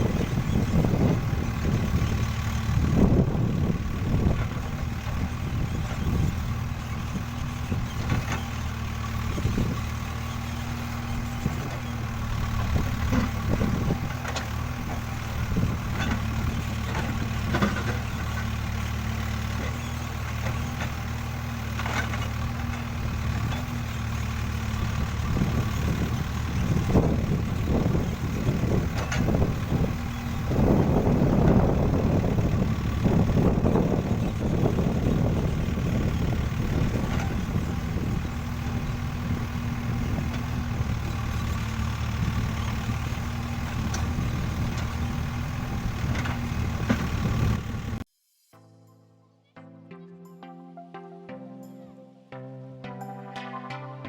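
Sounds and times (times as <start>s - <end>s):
diesel engine running: 0.0s - 48.1s.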